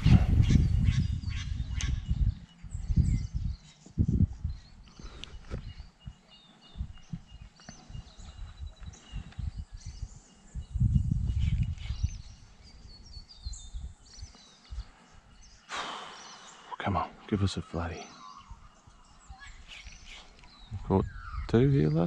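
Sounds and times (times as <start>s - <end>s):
wind buffeting microphone: 0.0s - 17.5s, 18.2s - 22.0s
small birds chirping: 0.0s - 22.0s.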